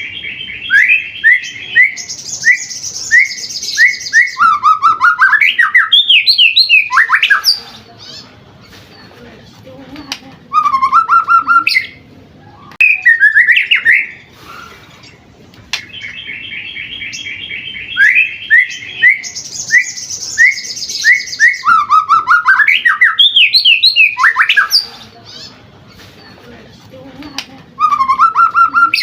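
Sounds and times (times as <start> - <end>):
songbird singing trills: 0.0 - 8.3, 9.9 - 26.5, 27.2 - 29.0.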